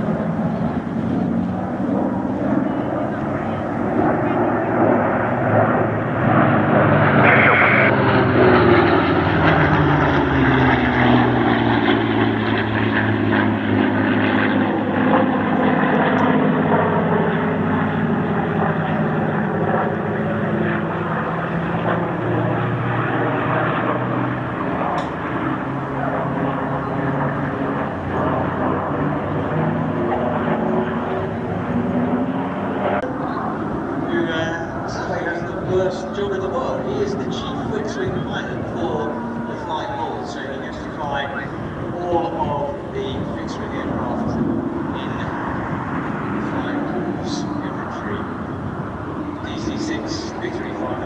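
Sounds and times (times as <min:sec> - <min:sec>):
propeller aircraft engines droning: 0:00.0 - 0:51.0.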